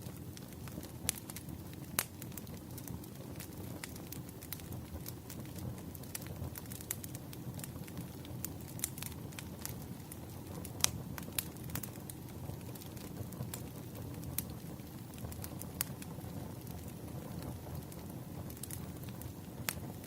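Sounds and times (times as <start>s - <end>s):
fire crackles and pops: 0.0s - 20.0s
wood fire rumble: 0.0s - 20.0s.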